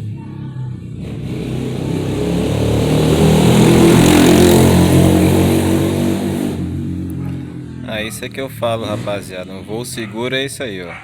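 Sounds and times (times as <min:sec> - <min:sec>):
motor vehicle passing: 0:00.0 - 0:11.0.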